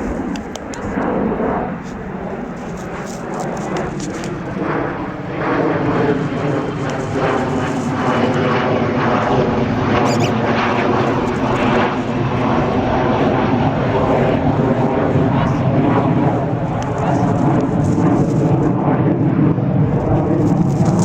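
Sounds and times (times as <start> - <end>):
low-flying aeroplane engine drone: 0.0 - 21.0.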